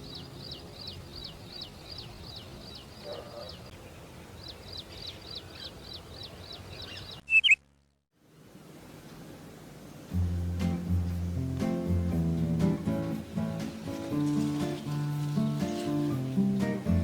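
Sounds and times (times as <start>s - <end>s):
bird chirping: 0.0s - 7.6s, 10.8s - 17.0s
faint background noise: 0.0s - 17.0s.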